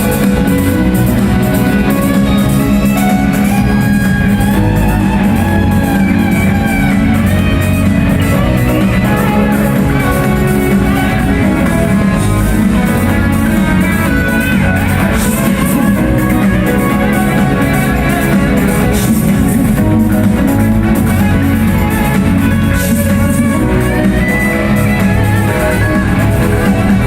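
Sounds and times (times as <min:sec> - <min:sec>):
electric guitar riffs: 0:00.0 - 0:27.0
live funk band playing: 0:00.0 - 0:27.0.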